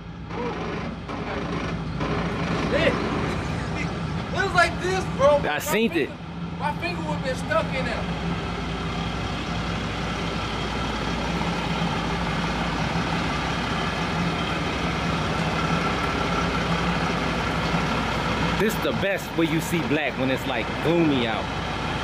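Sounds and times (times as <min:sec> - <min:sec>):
pickup truck engine idling: 0:00.0 - 0:22.0.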